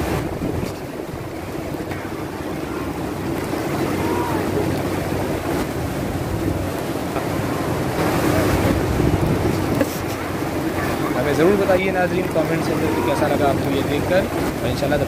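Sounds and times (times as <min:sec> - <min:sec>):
heavy rain pouring: 0:00.0 - 0:15.0
water surging through drain: 0:00.0 - 0:15.0.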